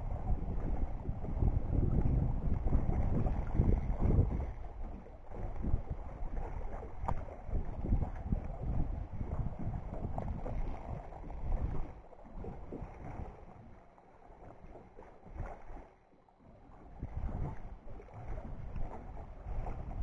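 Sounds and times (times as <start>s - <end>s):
wind buffeting microphone: 0.0s - 13.6s, 16.8s - 20.0s.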